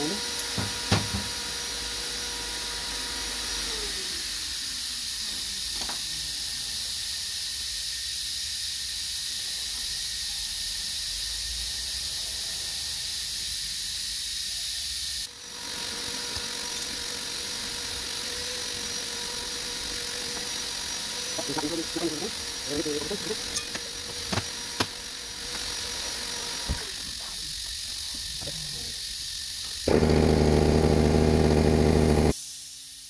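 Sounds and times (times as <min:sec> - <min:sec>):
workshop background hiss: 0:00.0 - 0:29.9, 0:32.3 - 0:33.0.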